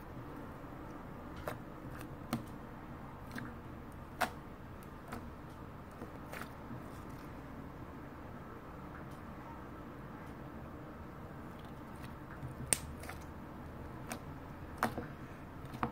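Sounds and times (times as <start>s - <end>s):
low steady hiss: 0.0s - 15.9s.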